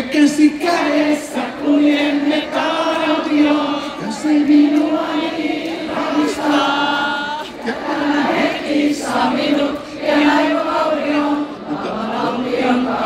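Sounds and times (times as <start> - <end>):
audience singing along: 0.0 - 13.0.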